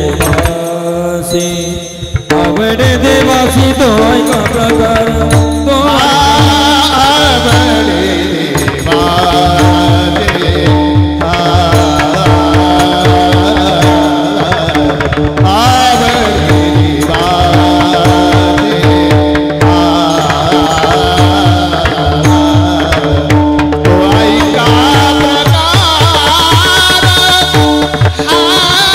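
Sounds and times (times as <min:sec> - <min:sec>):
drum beating: 0:00.0 - 0:01.1, 0:02.0 - 0:28.9.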